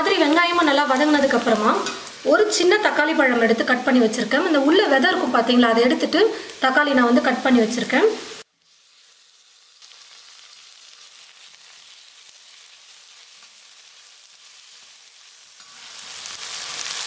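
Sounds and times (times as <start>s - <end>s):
onions and tomato frying in oil: 0.0s - 17.0s.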